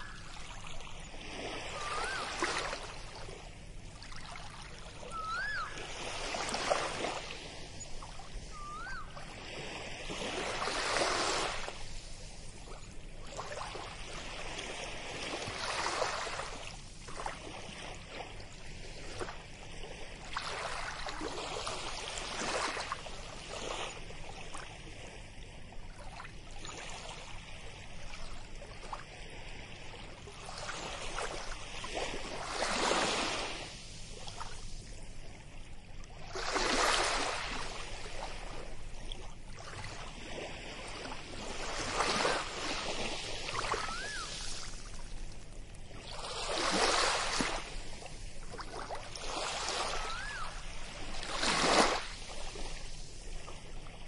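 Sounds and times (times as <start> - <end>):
small waves lapping on sand: 0.0 - 54.0.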